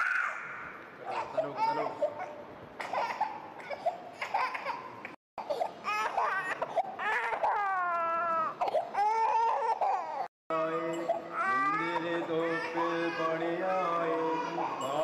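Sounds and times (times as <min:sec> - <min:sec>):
infant crying: 0:01.1 - 0:04.8, 0:05.4 - 0:10.3, 0:11.2 - 0:15.0.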